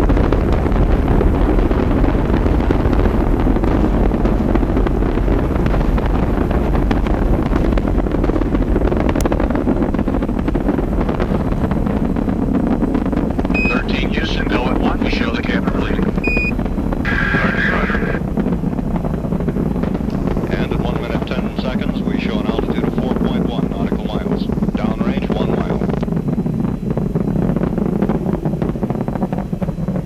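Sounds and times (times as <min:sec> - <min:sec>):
rocket engines rumbling: 0:00.0 - 0:30.0.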